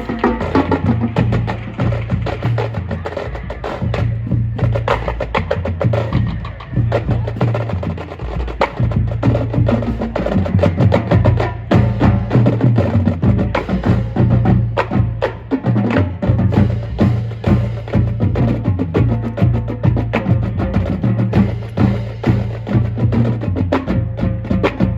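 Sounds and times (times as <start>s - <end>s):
bass drum notes: 0.0s - 24.9s.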